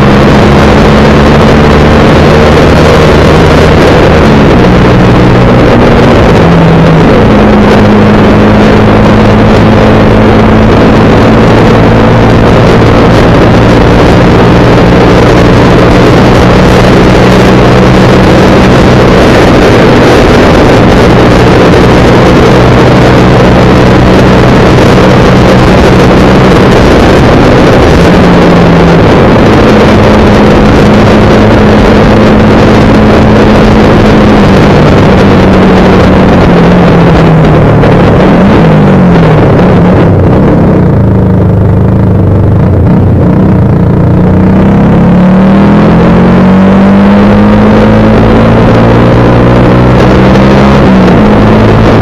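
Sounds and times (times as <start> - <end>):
motorcycle engine running: 0.0 - 52.0
wind and road rush: 0.0 - 52.0.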